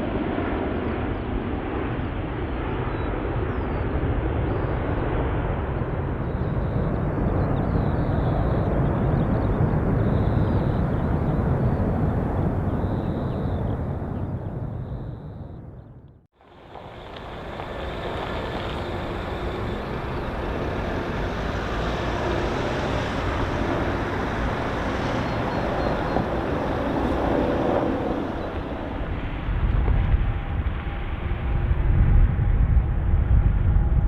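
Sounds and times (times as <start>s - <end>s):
jet engine rush: 0.0s - 34.0s
deep rumble: 0.9s - 34.0s.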